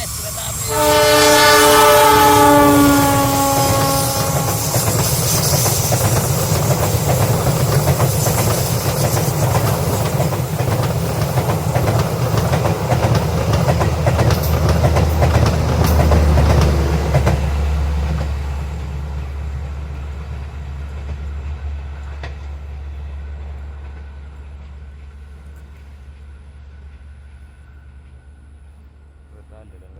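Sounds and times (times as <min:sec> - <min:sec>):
deep train rumble: 0:00.0 - 0:29.9
train wheels clattering over rails: 0:00.9 - 0:28.2.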